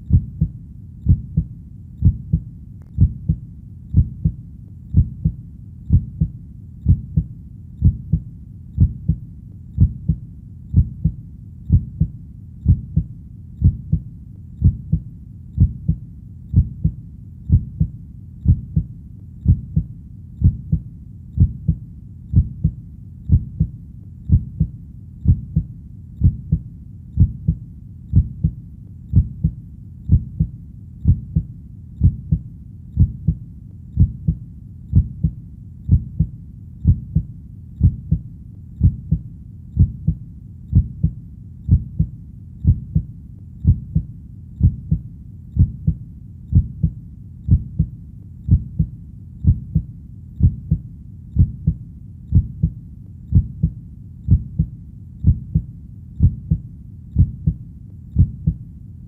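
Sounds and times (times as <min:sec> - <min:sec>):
heartbeat double thump: 0:00.1 - 0:00.5, 0:01.1 - 0:08.2, 0:09.8 - 0:14.0, 0:14.6 - 0:15.0, 0:15.6 - 0:20.8, 0:21.4 - 0:23.7, 0:24.3 - 0:26.6, 0:27.2 - 0:32.4, 0:33.0 - 0:33.4, 0:34.0 - 0:38.2, 0:38.8 - 0:39.2, 0:39.8 - 0:45.0, 0:45.6 - 0:47.9, 0:48.5 - 0:50.8, 0:51.4 - 0:56.6, 0:57.2 - 0:57.6, 0:58.2 - 0:58.6.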